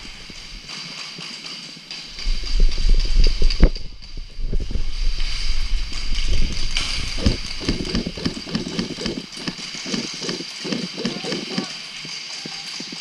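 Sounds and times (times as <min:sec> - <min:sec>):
irregular knocks and thuds: 0:00.0 - 0:13.0.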